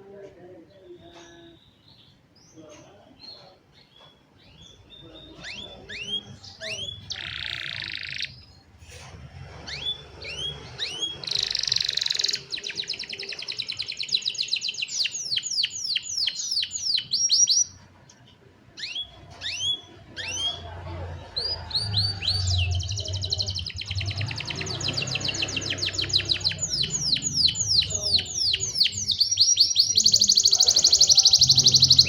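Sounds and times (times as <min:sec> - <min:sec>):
canaries singing: 0:00.0 - 0:32.0.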